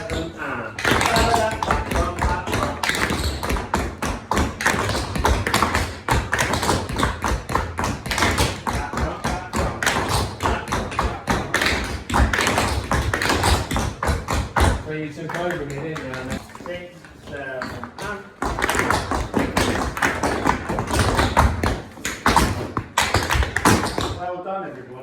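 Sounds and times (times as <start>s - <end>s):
tap shoes on hard floor: 0.0s - 24.2s.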